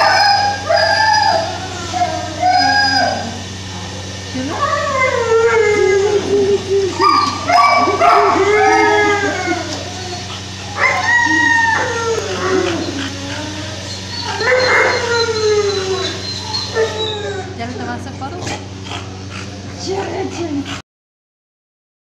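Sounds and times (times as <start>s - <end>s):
dog howling: 0.0s - 17.8s.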